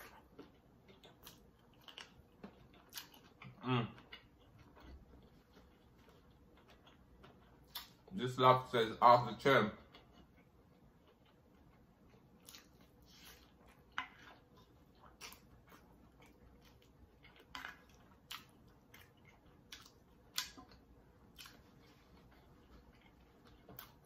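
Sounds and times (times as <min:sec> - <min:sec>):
person chewing food: 0:00.0 - 0:08.2, 0:09.7 - 0:24.0.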